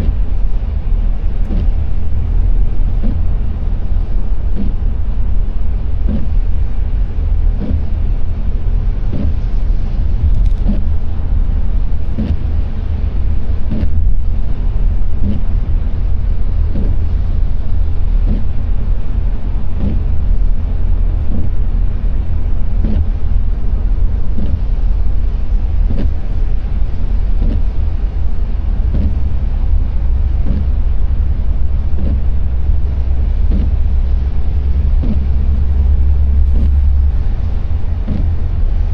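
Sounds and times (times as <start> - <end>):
tyre and engine rumble: 0.0 - 38.9
windscreen wipers beating: 0.0 - 38.9.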